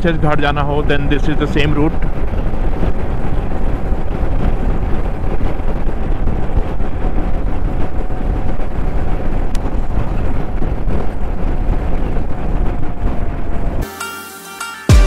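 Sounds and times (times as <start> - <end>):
wind rushing over microphone: 0.0 - 13.9.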